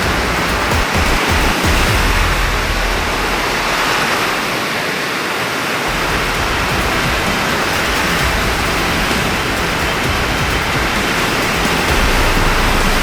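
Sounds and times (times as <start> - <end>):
rushing storm water: 0.0 - 13.0.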